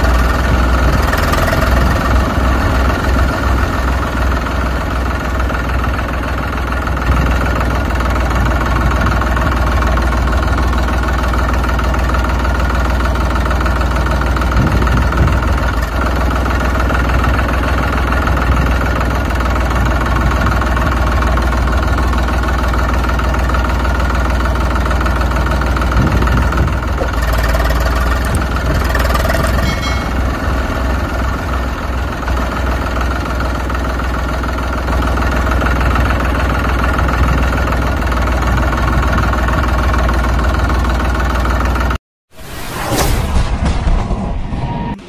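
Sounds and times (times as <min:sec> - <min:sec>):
engine idling: 0:00.0 - 0:42.0.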